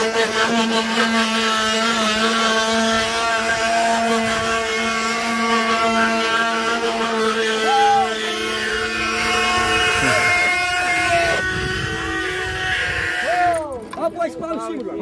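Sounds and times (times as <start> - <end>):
wooden cart axle droning: 0.0 - 14.4.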